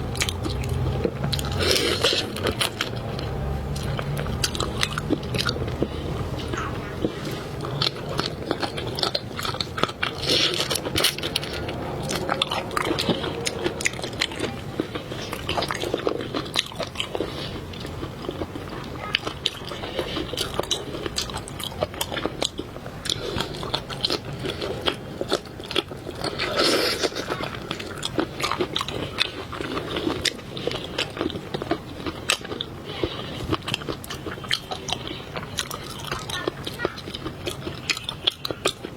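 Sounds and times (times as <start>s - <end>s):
chewing and biting seafood: 0.0s - 38.9s.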